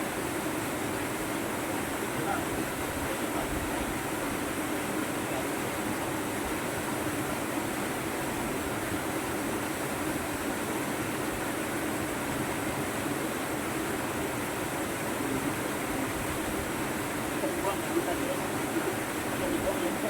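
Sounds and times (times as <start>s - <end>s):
rushing waterfall and river: 0.0s - 20.0s.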